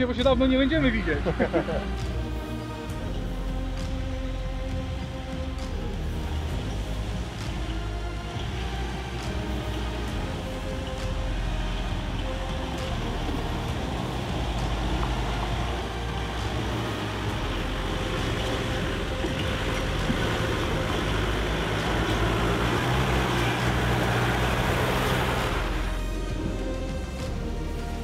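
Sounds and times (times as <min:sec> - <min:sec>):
car engine driving: 0:00.0 - 0:28.0.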